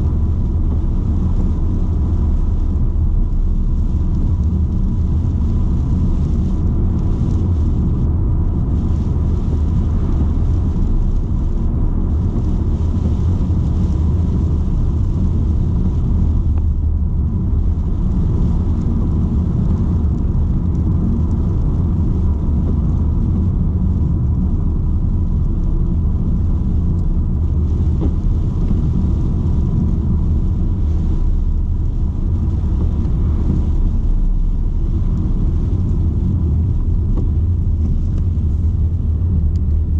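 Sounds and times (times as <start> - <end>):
car engine droning while driving: 0.0 - 39.9
road noise: 0.0 - 39.9.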